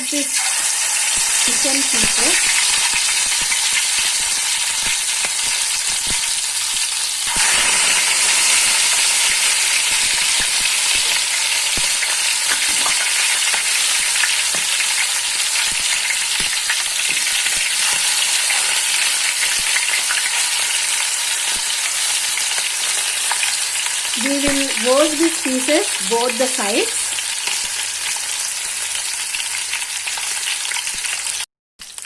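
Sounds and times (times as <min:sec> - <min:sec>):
chicken sizzling in oil: 0:00.0 - 0:32.0.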